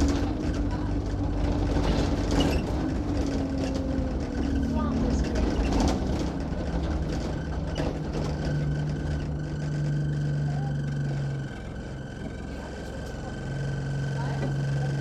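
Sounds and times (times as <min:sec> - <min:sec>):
bus diesel engine droning: 0:00.0 - 0:15.0.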